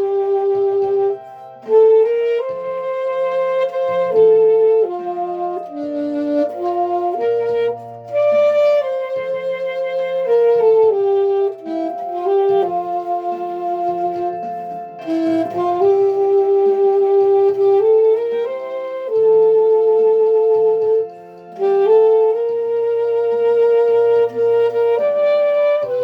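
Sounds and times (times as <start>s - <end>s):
backing accompaniment: 0.0s - 26.0s
saxophone playing gospel melody: 0.0s - 26.0s.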